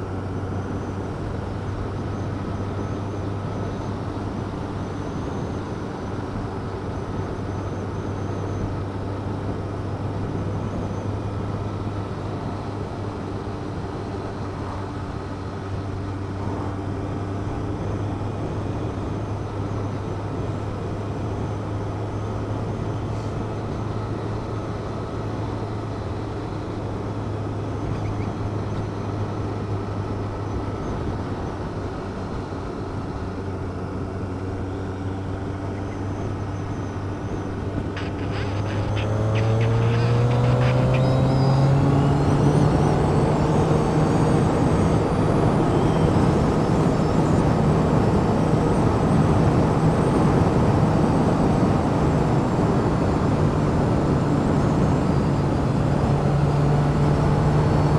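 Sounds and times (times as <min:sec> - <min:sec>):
road noise: 0:00.0 - 0:57.9
vehicle engine running: 0:00.0 - 0:57.9.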